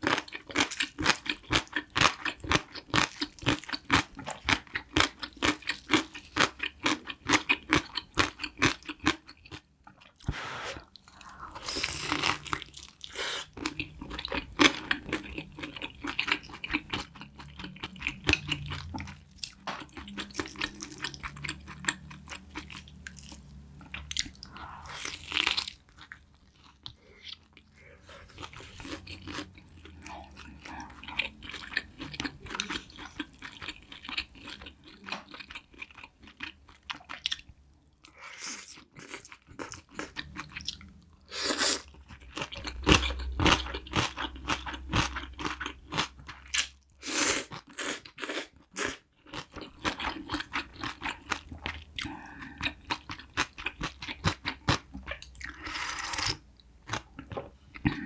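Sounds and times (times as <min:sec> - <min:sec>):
crunching and chewing fried food: 0:00.0 - 0:58.0.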